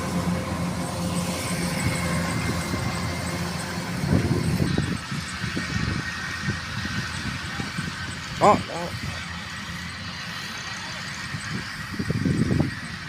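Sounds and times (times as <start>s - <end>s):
combine harvester engine running: 0.0s - 13.0s.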